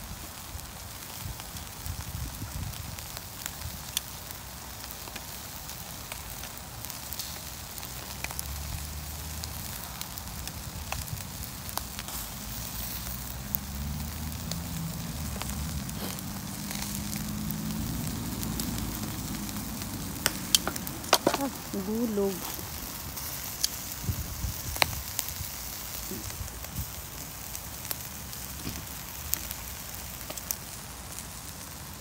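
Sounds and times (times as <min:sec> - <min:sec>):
food sizzling on a grill: 0:00.0 - 0:32.0.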